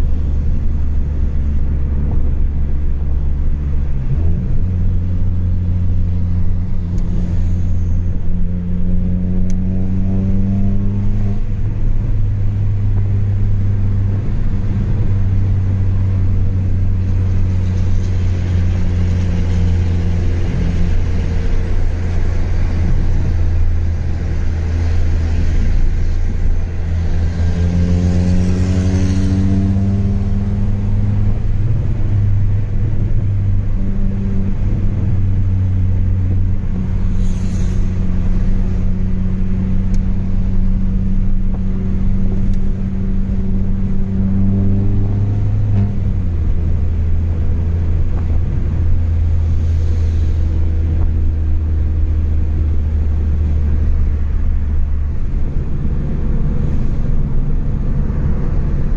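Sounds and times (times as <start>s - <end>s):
car engine droning while accelerating: 0.0s - 58.9s.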